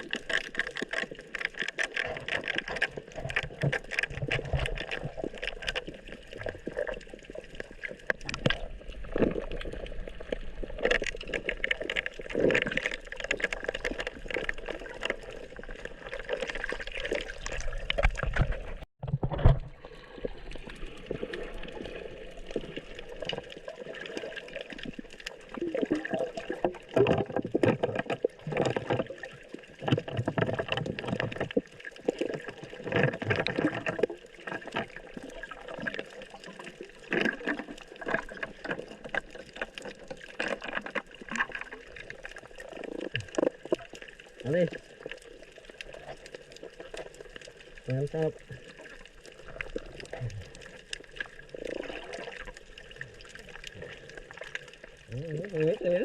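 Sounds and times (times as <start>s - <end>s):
water splashing around a boat: 0.0s - 56.0s.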